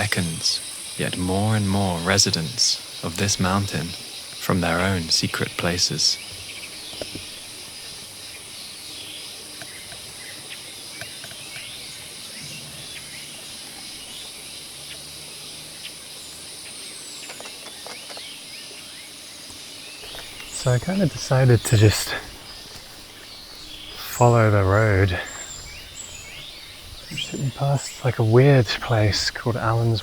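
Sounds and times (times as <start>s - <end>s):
faint bird chirps: 0.0s - 30.0s
high insect drone: 0.0s - 30.0s.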